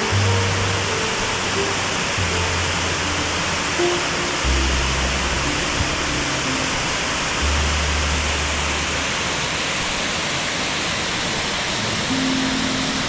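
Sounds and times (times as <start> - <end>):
soft low held music notes: 0.0 - 10.0, 11.4 - 13.0
waterfall roaring: 0.0 - 13.0.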